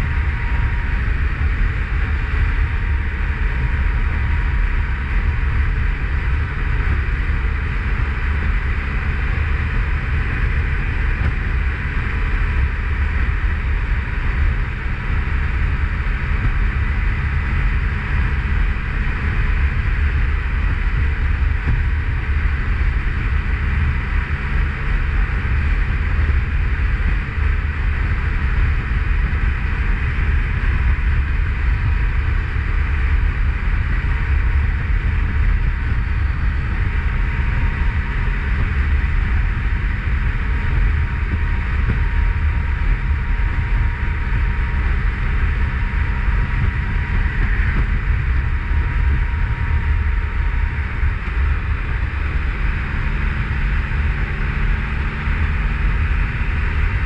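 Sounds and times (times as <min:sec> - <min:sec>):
motorcycle engine running: 0:00.0 - 0:57.0
wind rumble on microphone: 0:00.0 - 0:57.0.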